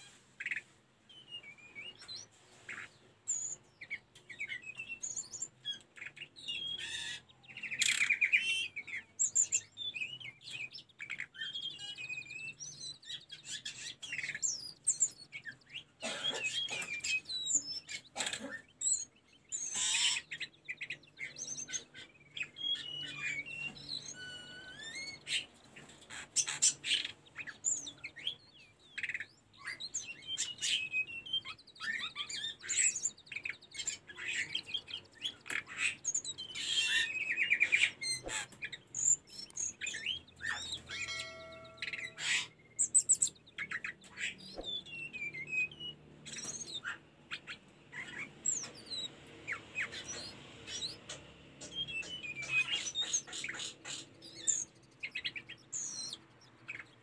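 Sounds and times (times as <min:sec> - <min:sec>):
bird singing whistled trills: 0:03.3 - 0:17.9, 0:18.8 - 0:25.5, 0:26.4 - 0:51.0, 0:51.6 - 0:56.9.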